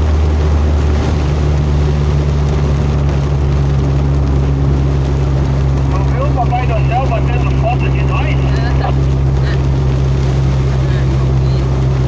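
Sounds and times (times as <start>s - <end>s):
buggy engine running: 0.0s - 12.0s
road and wind noise: 0.0s - 12.0s.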